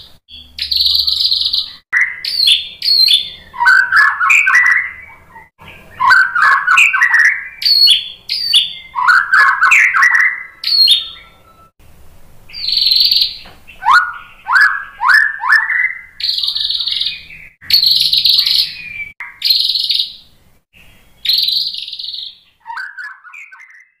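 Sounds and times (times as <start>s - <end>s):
bird singing varied song: 0.0s - 11.8s, 12.4s - 24.0s.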